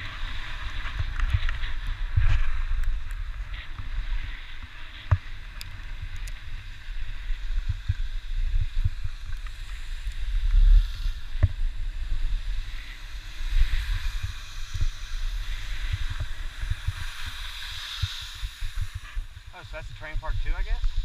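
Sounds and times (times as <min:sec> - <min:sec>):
skis hissing over snow: 0:00.0 - 0:21.0
wind rumbling on microphone: 0:00.0 - 0:21.0.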